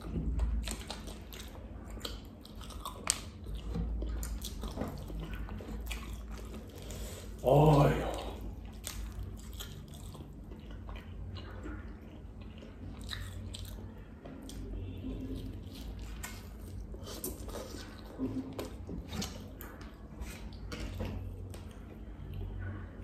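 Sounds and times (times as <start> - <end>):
biting and chewing: 0.0 - 7.4, 8.1 - 21.9.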